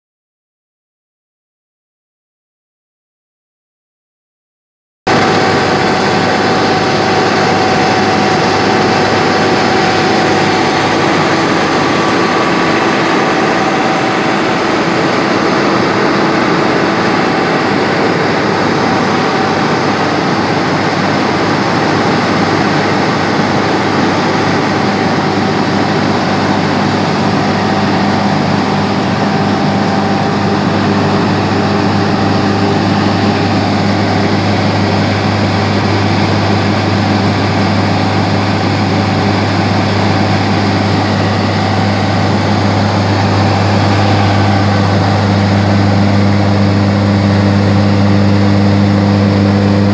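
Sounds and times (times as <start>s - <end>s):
tractor engine running: 5.1s - 49.9s.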